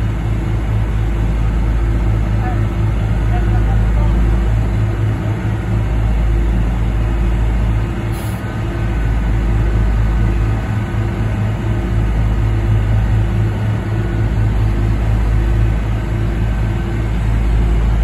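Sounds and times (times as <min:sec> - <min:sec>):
heavy diesel engines droning: 0:00.0 - 0:18.0.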